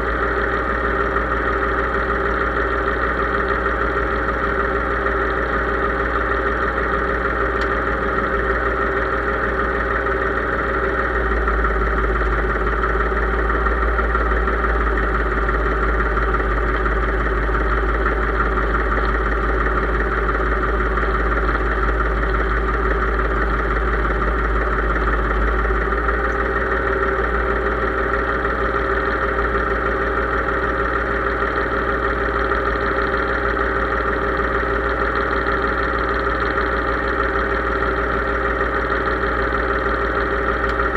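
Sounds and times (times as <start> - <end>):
tractor engine running steadily: 0.0 - 40.9.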